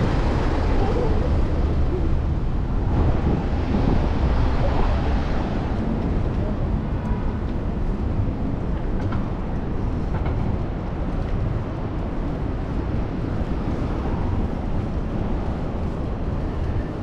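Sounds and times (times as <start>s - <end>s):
tyre and traffic noise: 0.0s - 17.0s
wind over microphone: 0.0s - 17.0s.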